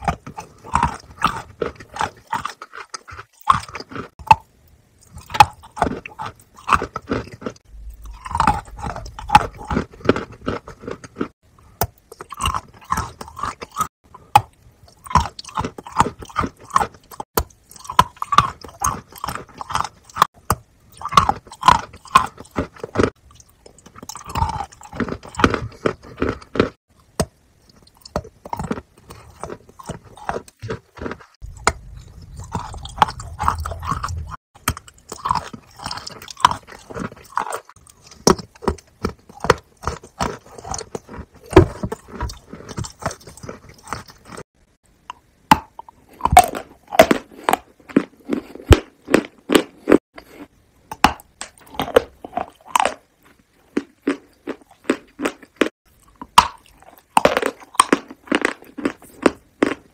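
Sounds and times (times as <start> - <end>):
lip and tongue clicks: 0.0 - 44.4, 45.1 - 59.9
person chewing and smacking: 0.0 - 59.9.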